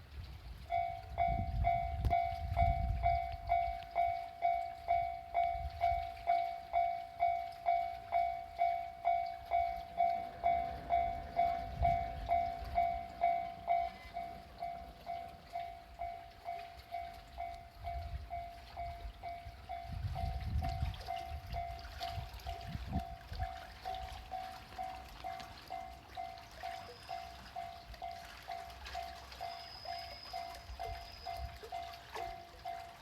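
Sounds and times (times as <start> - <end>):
level crossing warning bell ringing: 0.7 - 33.0.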